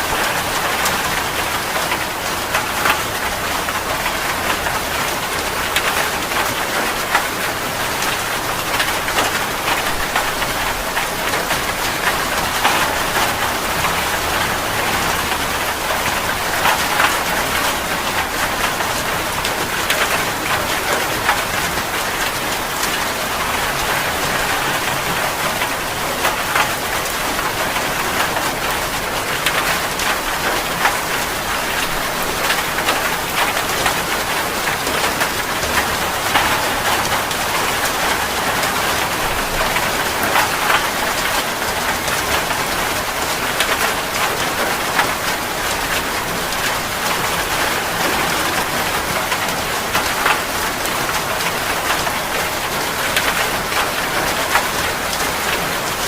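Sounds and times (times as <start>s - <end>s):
heavy rain: 0.0s - 56.0s
raindrops spattering on a surface: 0.0s - 56.0s.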